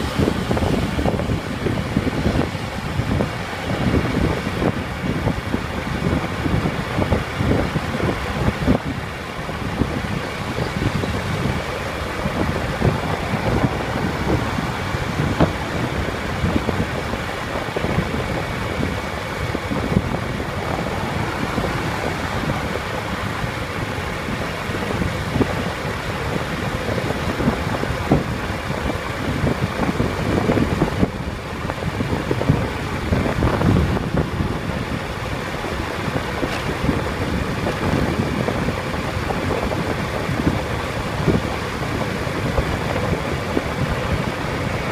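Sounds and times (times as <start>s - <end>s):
vehicle engine and road noise: 0.0s - 44.9s
wind gusting on microphone: 0.0s - 44.9s.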